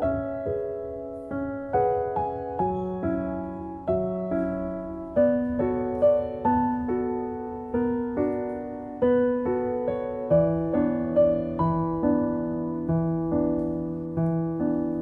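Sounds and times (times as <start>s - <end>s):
piano piece: 0.0s - 15.0s.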